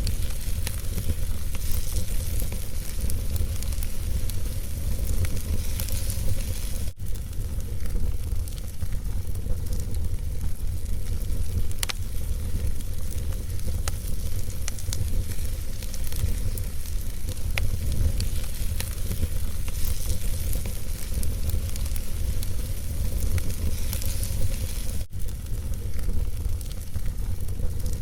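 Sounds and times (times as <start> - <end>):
fire rumble and hiss: 0.0 - 28.0
wood fire crackling: 0.0 - 28.0.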